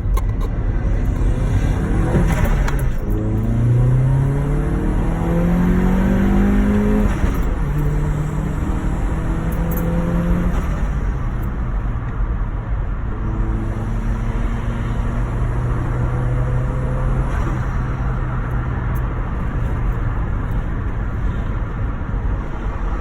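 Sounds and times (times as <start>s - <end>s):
turbocharged car engine under load: 0.0s - 23.0s.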